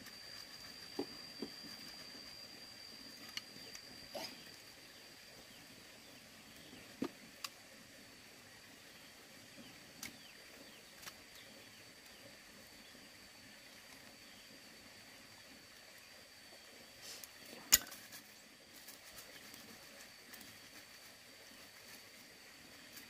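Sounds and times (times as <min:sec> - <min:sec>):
faint chirps: 0:00.0 - 0:23.0.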